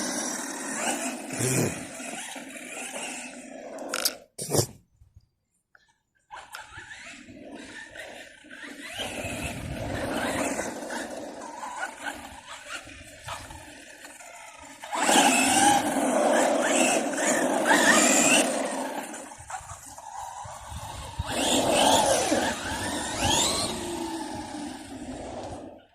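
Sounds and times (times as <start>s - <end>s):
electric motor whining: 0.0s - 4.1s, 6.5s - 25.9s
drivetrain and tyre noise: 0.0s - 4.2s, 6.4s - 25.9s.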